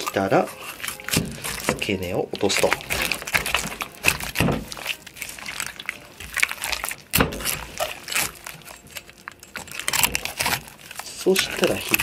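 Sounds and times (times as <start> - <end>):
wet squelching of fish innards: 0.0 - 12.0.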